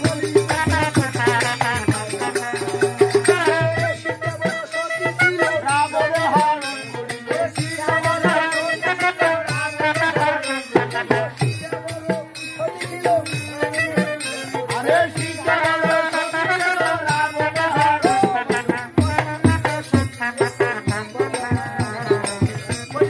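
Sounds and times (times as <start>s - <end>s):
harmonium: 0.0s - 23.0s
rattling percussion: 0.0s - 23.0s.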